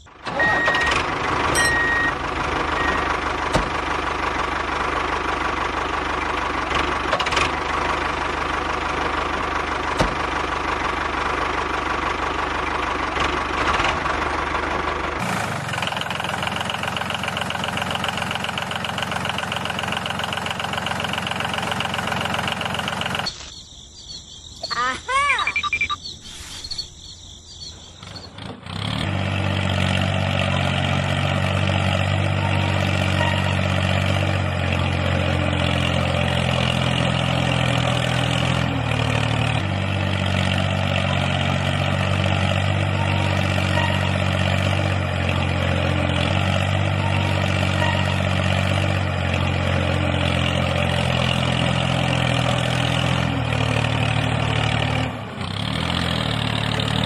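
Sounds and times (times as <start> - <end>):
mini tractor engine drone: 0.0 - 23.5, 27.7 - 57.0.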